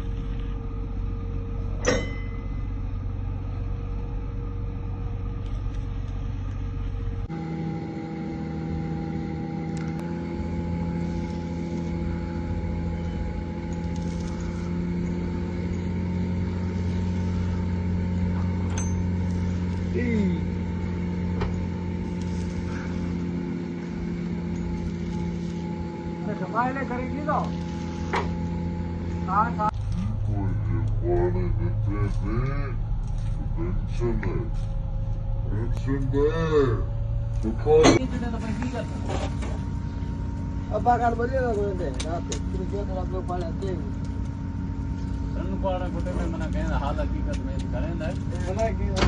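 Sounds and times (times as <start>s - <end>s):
heavy machinery humming: 0.0s - 49.0s.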